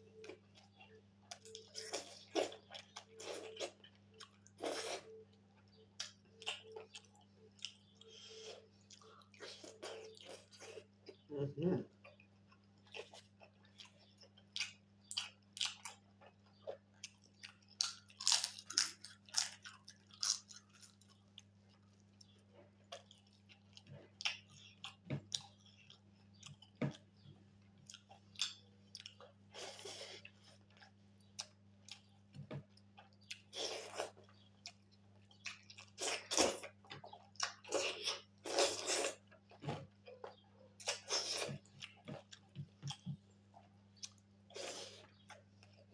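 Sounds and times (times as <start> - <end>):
chewing and biting food: 0.2 - 11.2, 12.1 - 45.9.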